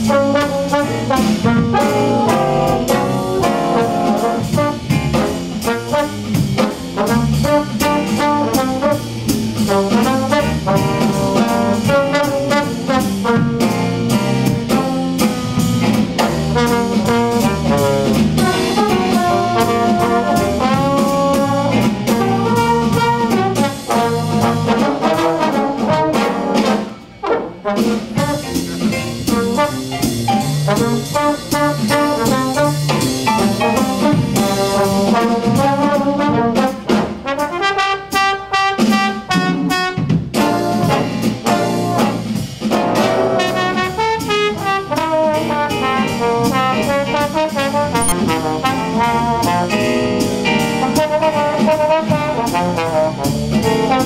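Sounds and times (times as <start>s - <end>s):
drums: 0.0s - 54.0s
jazz trombone ensemble: 0.0s - 54.0s.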